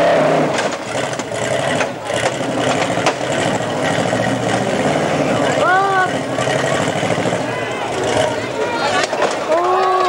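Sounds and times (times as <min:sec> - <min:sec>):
car engine running at low speed: 0:00.0 - 0:08.8.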